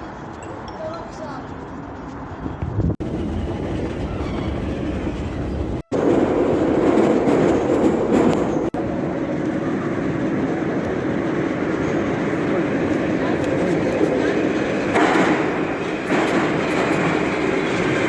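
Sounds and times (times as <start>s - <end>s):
train rumbling inside carriage: 2.6s - 18.0s.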